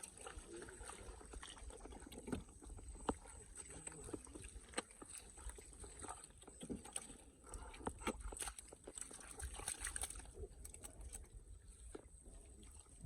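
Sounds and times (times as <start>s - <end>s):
shallow water sloshing and splashing: 0.0s - 13.0s.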